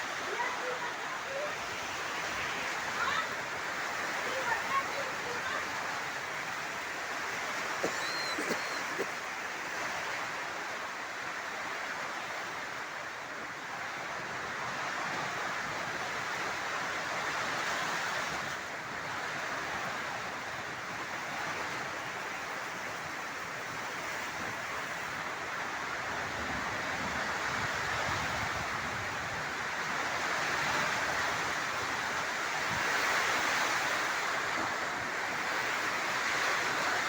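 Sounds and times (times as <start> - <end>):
heavy rain: 0.0 - 37.0
wind: 0.0 - 37.0.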